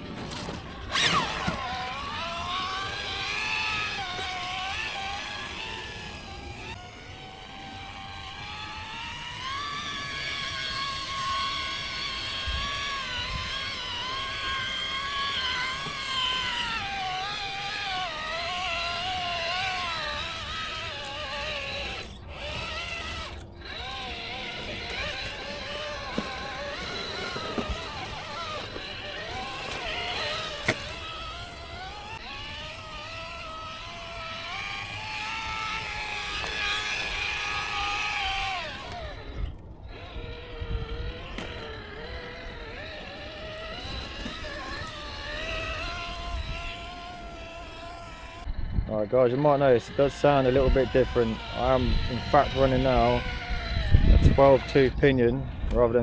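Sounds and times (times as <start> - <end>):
electric motor and gears whining: 0.0 - 56.0.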